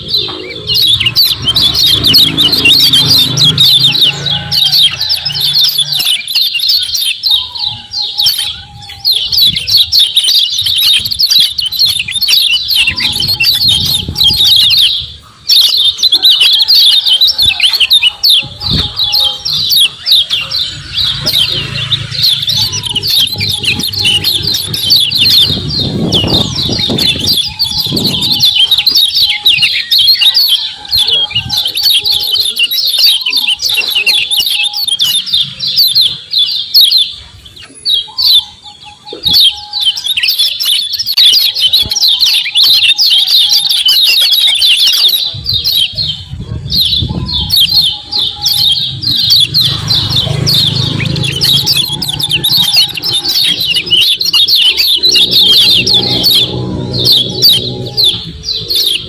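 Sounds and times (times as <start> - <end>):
bird chattering chirps: 0.0 - 59.0.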